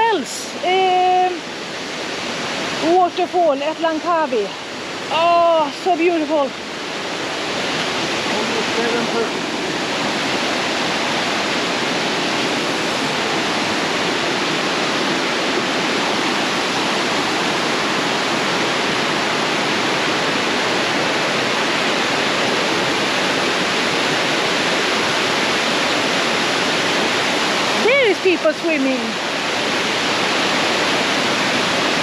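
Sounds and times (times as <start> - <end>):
waterfall crashing into pool: 0.0 - 32.0.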